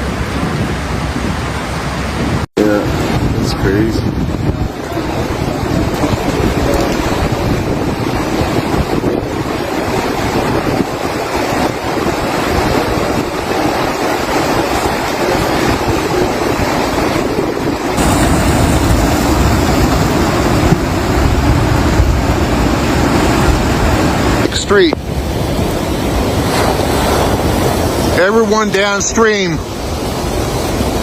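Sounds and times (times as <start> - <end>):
floodwater rushing: 0.0 - 31.0
wind buffeting microphone: 0.0 - 31.0.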